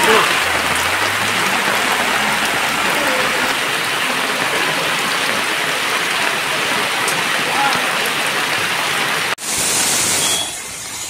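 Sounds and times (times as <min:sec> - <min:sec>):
rain falling on flooded street: 0:00.0 - 0:11.0.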